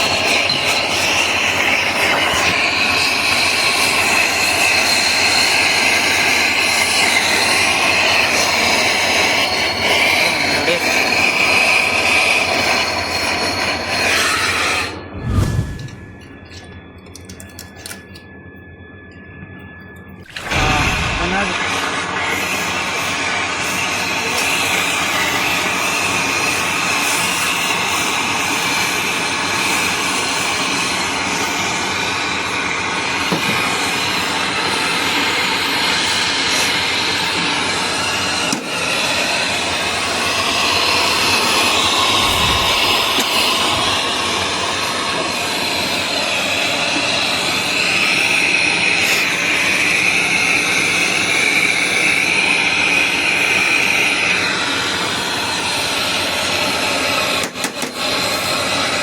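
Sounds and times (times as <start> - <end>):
gas torch hissing: 0.0 - 16.6, 20.2 - 59.0.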